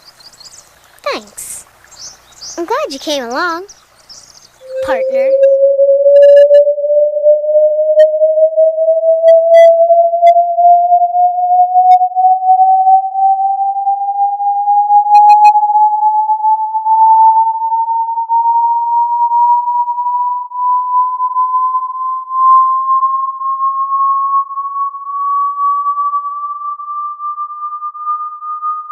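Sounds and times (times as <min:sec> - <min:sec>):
rising electronic sine tone: 0:04.6 - 0:28.9.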